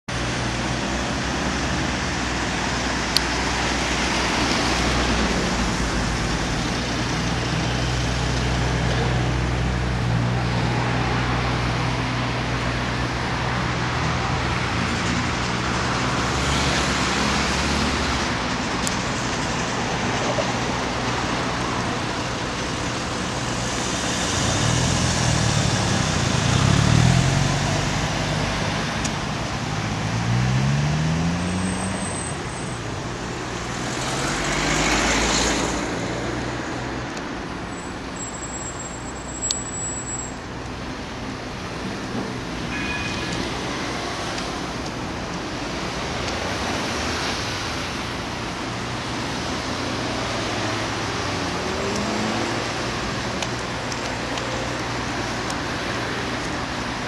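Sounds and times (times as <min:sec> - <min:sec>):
street traffic noise: 0:00.1 - 0:57.0.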